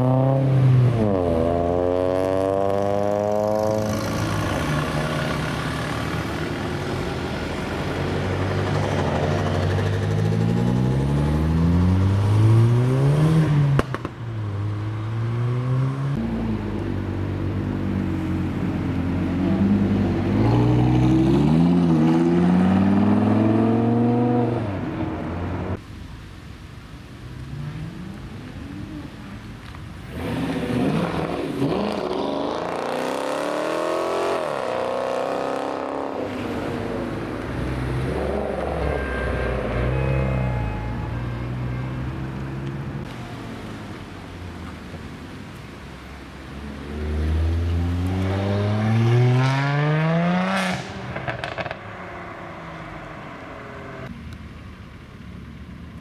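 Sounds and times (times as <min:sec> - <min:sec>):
car engines revving: 0:00.0 - 0:25.8, 0:27.4 - 0:54.3.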